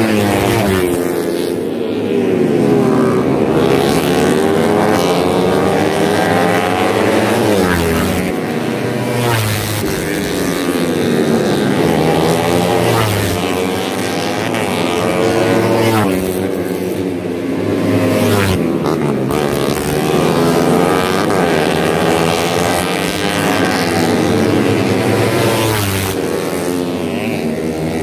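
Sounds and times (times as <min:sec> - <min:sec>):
racing motorcycles accelerating: 0:00.0 - 0:28.0.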